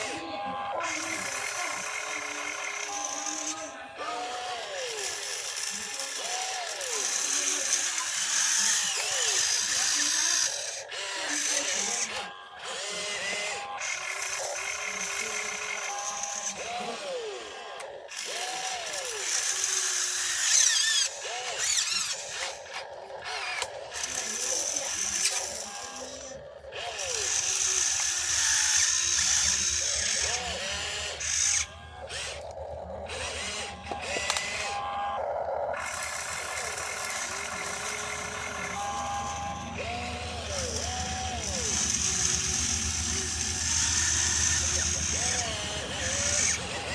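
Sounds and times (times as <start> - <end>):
toy excavator motors whining: 0.0 - 46.9.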